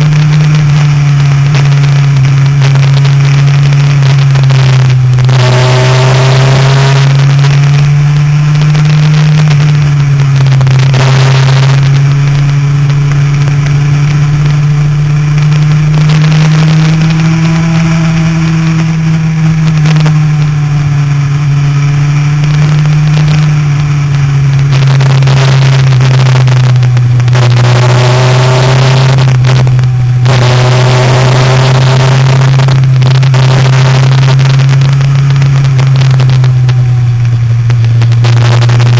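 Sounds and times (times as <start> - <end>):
motorcycle engine running hard: 0.0 - 38.9
wind noise on microphone: 0.0 - 38.9.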